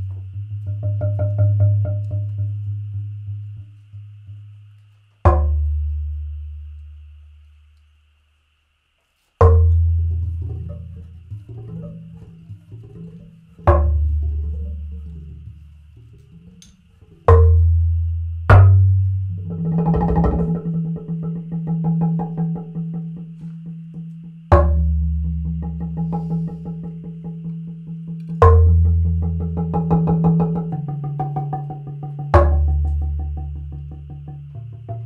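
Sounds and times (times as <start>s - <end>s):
mallet striking wooden planks: 0.0s - 2.6s, 5.2s - 6.4s, 9.4s - 15.5s, 16.2s - 35.0s
heavy ringing wooden strikes: 0.0s - 3.6s, 5.2s - 7.1s, 9.4s - 35.0s.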